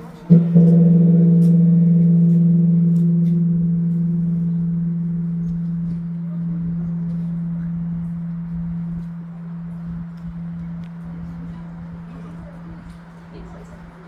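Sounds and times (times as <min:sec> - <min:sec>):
large bronze bell ringing: 0:00.0 - 0:14.0.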